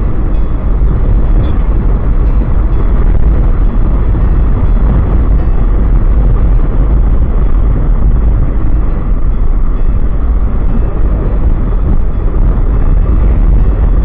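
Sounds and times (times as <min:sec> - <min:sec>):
motorcycle engine and road noise: 0:00.0 - 0:14.0
wind buffeting microphone: 0:00.0 - 0:14.0.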